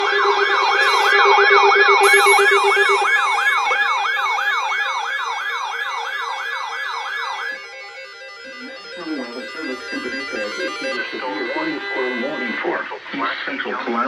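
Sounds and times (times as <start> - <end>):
steady lower tone: 0.0 - 13.2
electronic yelp siren: 0.0 - 14.0.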